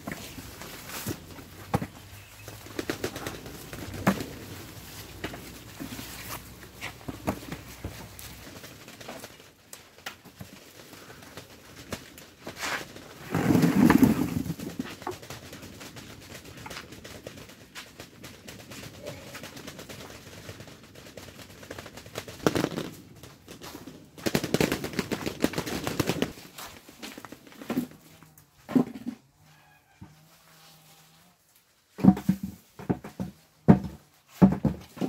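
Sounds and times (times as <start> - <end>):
knocks and rustling: 0.0 - 29.4, 31.9 - 35.0.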